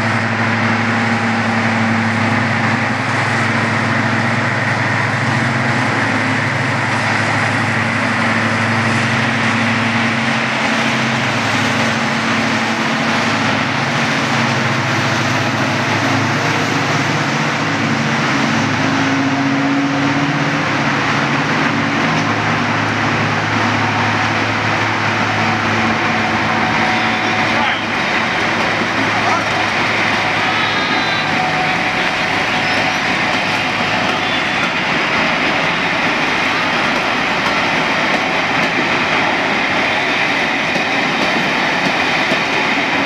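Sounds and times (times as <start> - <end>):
diesel locomotive engines running: 0.0 - 43.0.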